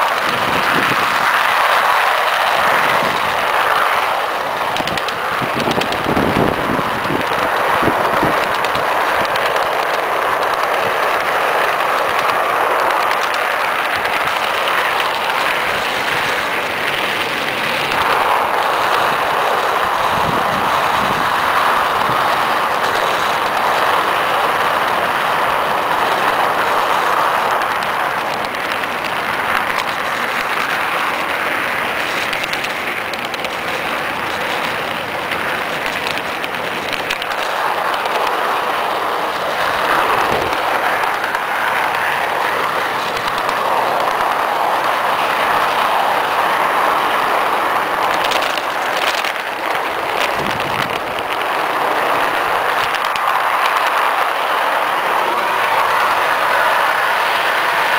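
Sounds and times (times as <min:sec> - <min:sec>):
model train wheels on rails: 0:00.0 - 0:57.9.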